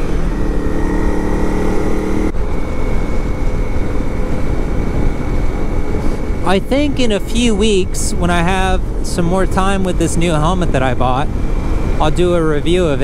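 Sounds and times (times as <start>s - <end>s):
motorcycle engine running: 0.0s - 13.0s
wind rumble on microphone: 0.0s - 13.0s.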